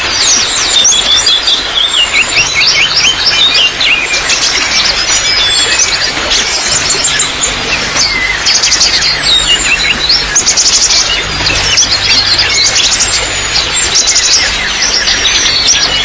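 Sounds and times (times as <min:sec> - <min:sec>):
small songbirds chirping: 0:00.0 - 0:16.0
trickle of running water: 0:00.0 - 0:16.0.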